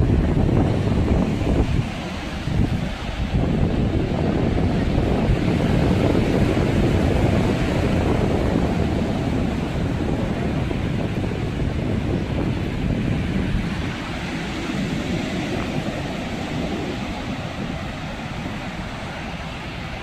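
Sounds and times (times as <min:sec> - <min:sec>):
sea waves breaking on shore: 0:00.0 - 0:20.0
wind buffeting microphone: 0:00.0 - 0:20.0.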